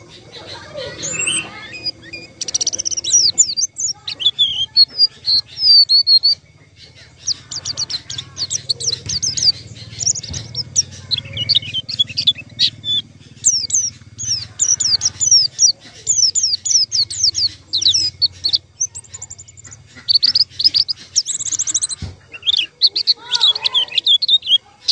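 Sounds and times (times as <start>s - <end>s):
bird chirping and twittering: 0.0s - 24.9s
faint low hum: 0.0s - 24.9s.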